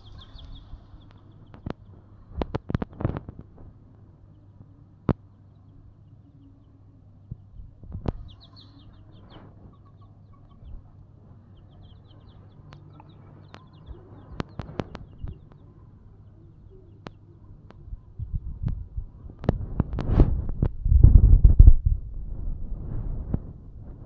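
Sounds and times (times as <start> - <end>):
chicks peeping: 0.0 - 20.0
low steady hum: 0.0 - 24.0.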